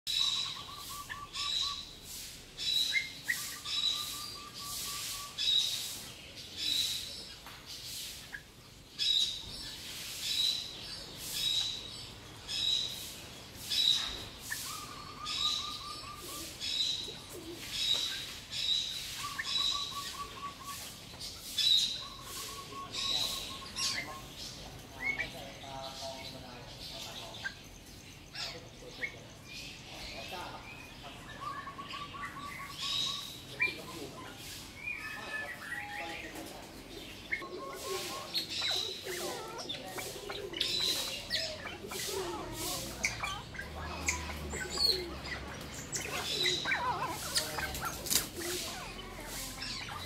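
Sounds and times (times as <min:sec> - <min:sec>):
bird chirping: 0:00.0 - 0:50.0.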